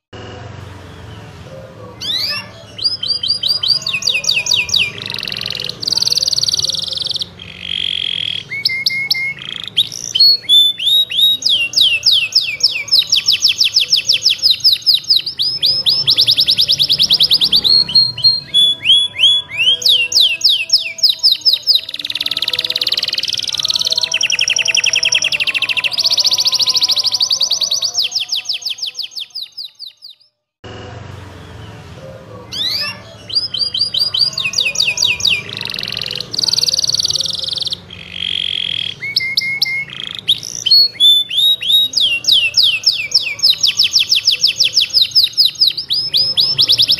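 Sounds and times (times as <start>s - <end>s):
canary singing trills: 0.7s - 30.4s, 31.3s - 46.9s.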